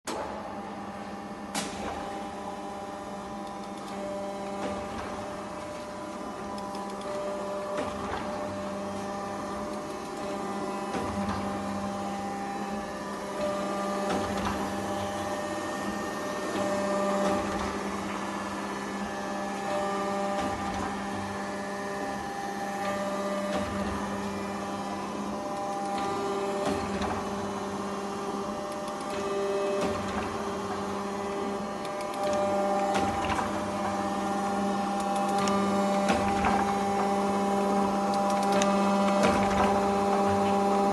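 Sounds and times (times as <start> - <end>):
hydraulic machine humming: 0.1 - 40.9.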